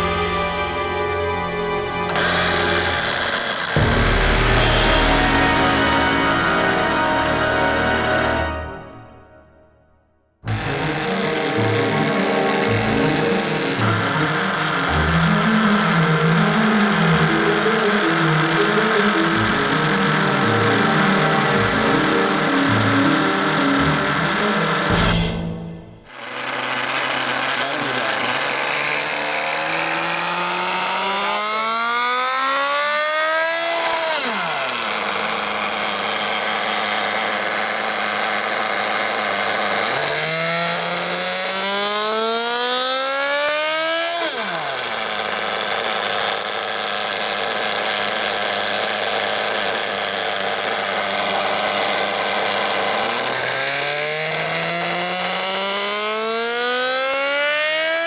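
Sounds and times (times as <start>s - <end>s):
nitro engine revving: 0.0s - 9.3s, 10.4s - 58.0s.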